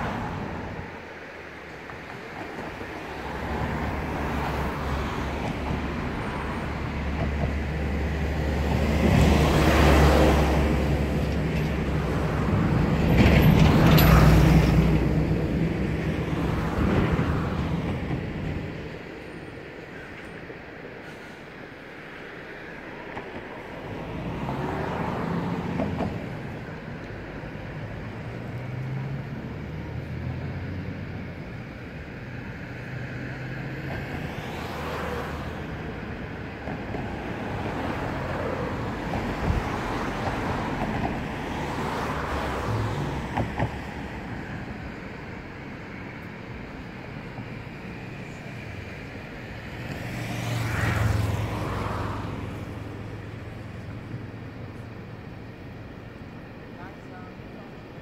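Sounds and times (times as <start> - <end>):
urban traffic rumble: 0.0 - 58.0
vehicles passing close: 0.0 - 58.0.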